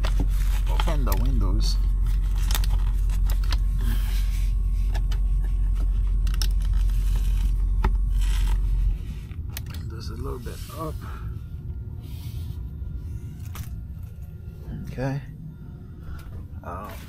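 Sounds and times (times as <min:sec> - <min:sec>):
low rumble inside truck cab: 0:00.0 - 0:17.0.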